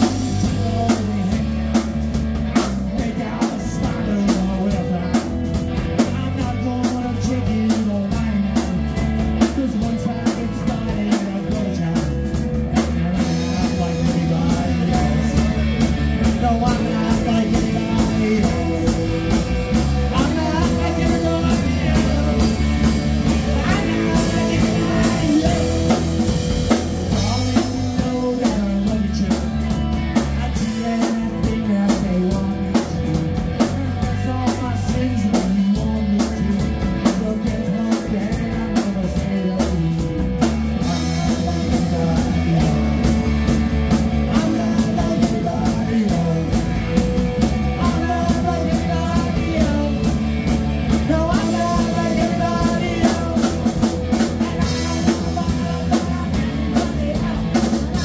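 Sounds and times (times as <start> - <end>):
drum kit: 0.0 - 58.0
electric bass: 0.0 - 58.0
electric guitars: 0.0 - 58.0
person singing lead vocal: 0.0 - 58.0.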